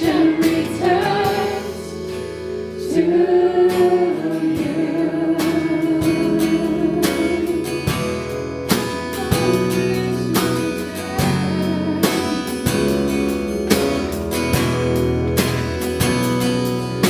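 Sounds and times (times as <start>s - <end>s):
strummed acoustic guitar: 0.0s - 17.0s
worship band playing: 0.0s - 17.0s.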